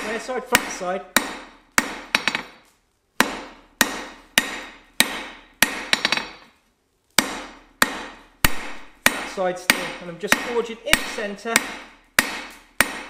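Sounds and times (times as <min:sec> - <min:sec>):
hammer striking steel on anvil: 0:00.0 - 0:02.5, 0:03.2 - 0:06.5, 0:07.2 - 0:13.0.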